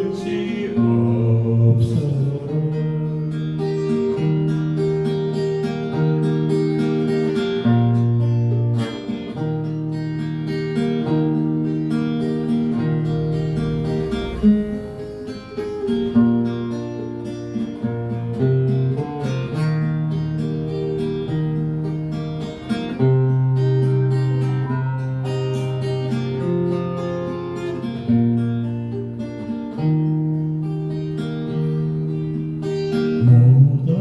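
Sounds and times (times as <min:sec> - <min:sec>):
acoustic guitar playing: 0:00.0 - 0:34.0.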